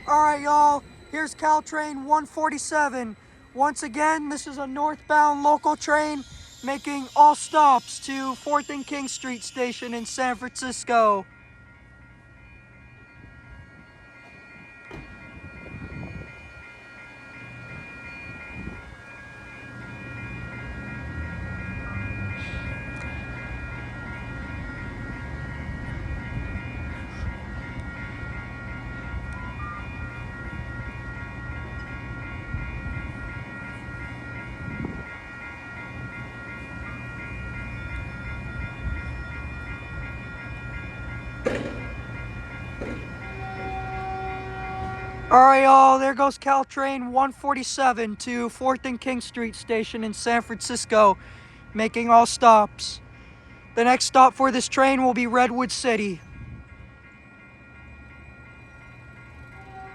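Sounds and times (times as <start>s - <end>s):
electric train hum and rumble: 0.0s - 59.9s
high ringing tones: 0.0s - 59.9s.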